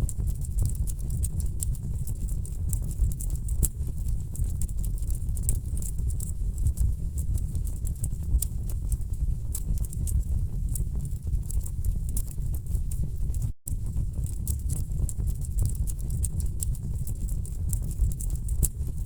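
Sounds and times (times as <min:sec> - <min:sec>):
fire low rumble: 0:00.0 - 0:19.0
wood fire crackles and pops: 0:00.1 - 0:19.0.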